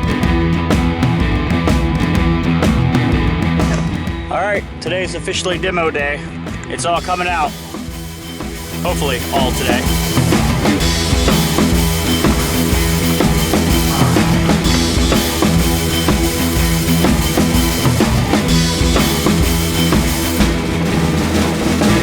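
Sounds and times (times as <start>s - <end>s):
rock music with drums and bass: 0.0s - 22.0s.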